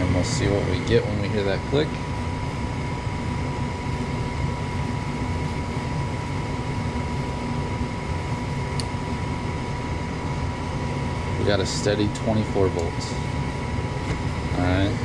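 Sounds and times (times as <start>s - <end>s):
blower motor running with whine: 0.0s - 15.0s.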